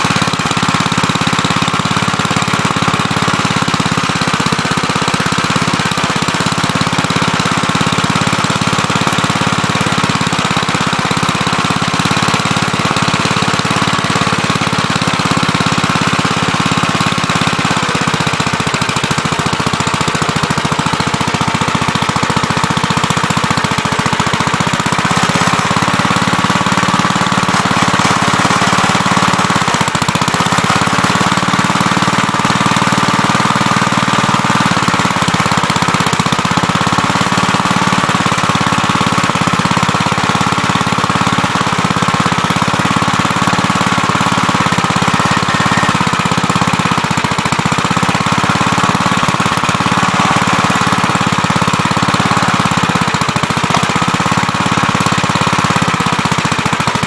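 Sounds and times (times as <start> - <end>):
backhoe engine chugging: 0.0 - 57.0.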